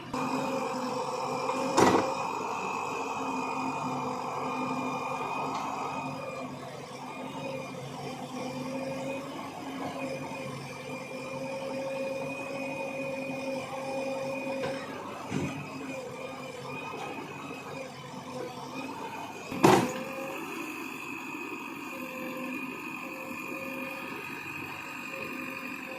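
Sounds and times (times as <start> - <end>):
diesel engine with whine: 0.0 - 25.9.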